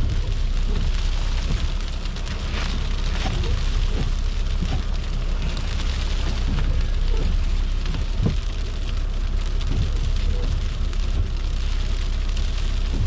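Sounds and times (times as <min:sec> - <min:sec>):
car driving on wet snowy road: 0:00.0 - 0:13.0.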